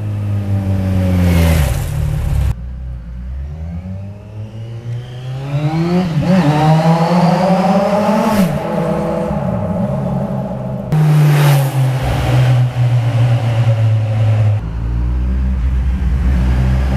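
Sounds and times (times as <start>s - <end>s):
motorcycle engine revving with echo: 0.0s - 16.9s.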